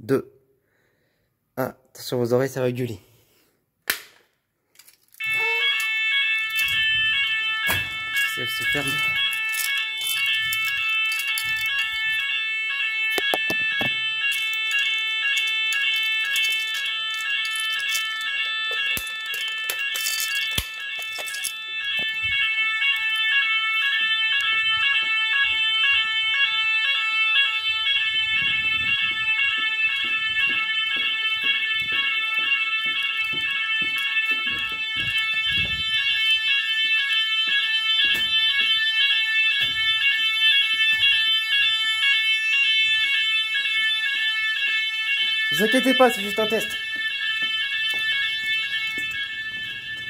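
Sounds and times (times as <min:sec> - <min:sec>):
fire alarm sirens: 0:05.1 - 0:50.0.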